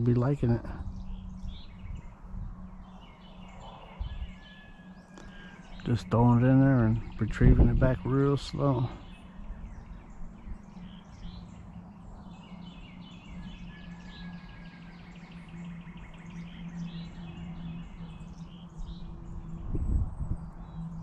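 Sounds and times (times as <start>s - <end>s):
low hum: 0.0s - 21.0s
songbirds chirping: 0.0s - 21.0s.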